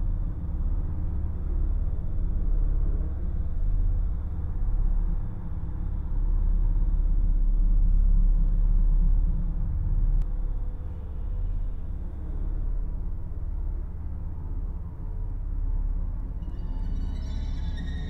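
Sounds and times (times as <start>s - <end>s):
faint steady hum: 0.0s - 18.0s
low rumbling drone: 0.0s - 18.0s.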